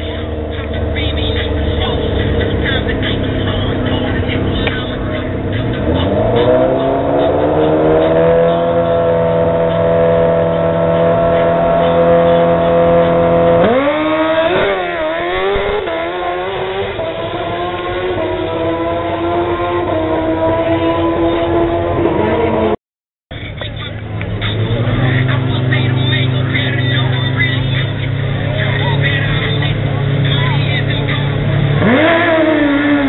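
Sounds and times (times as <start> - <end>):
motorcycle engine revving: 0.0 - 22.8, 23.4 - 33.0.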